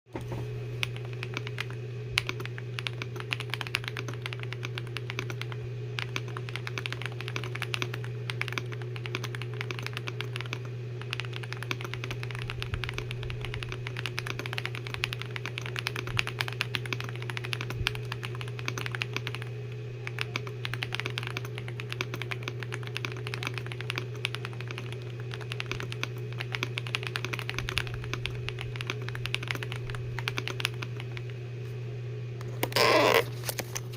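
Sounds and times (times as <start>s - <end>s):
steady low hum: 0.1s - 33.9s
mechanical keyboard typing: 0.8s - 31.4s.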